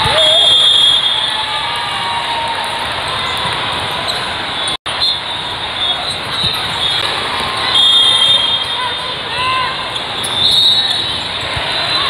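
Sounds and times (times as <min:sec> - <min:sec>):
echoing overlapping voices: 0:00.0 - 0:12.0.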